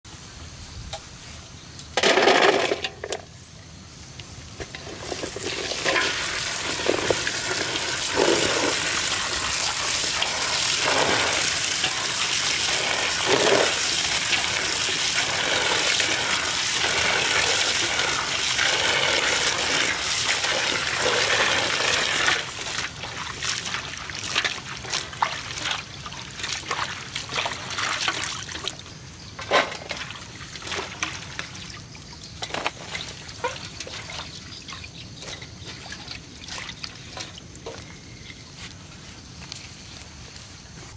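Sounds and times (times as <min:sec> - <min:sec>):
water running into metal basin: 0:04.6 - 0:37.9
splashing and sloshing: 0:04.6 - 0:38.7.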